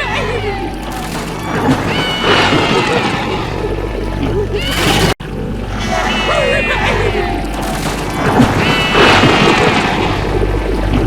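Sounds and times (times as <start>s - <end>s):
distorted pitch-shifted cartoon voices: 0.0s - 10.4s.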